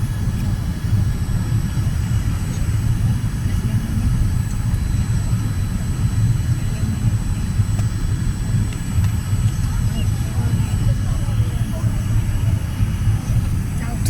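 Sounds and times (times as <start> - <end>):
airliner cabin engine rumble: 0.0 - 14.0
faint high whine: 0.0 - 14.0.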